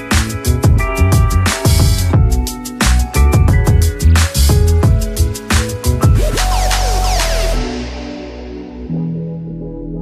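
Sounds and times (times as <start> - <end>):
instrumental music with drum beat: 0.0 - 8.6.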